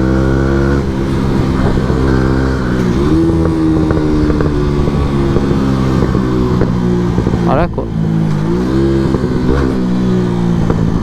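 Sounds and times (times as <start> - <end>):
motorcycle engine crackling and popping: 0.0 - 11.0.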